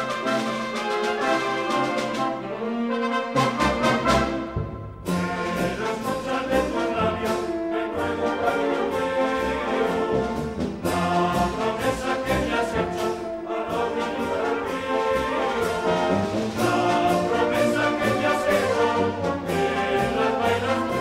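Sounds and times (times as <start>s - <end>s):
brass band playing festive tune: 0.0s - 21.0s.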